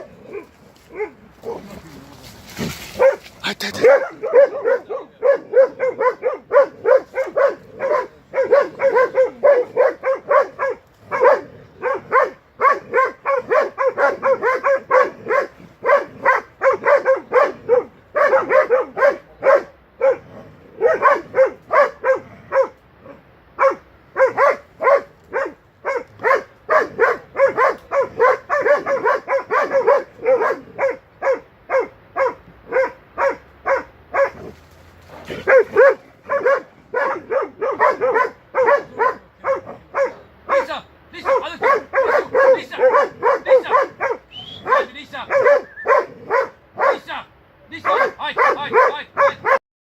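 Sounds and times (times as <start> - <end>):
dog barking sharply: 2.9 - 20.2, 20.8 - 22.8, 23.6 - 34.5, 35.3 - 47.1, 47.8 - 49.6.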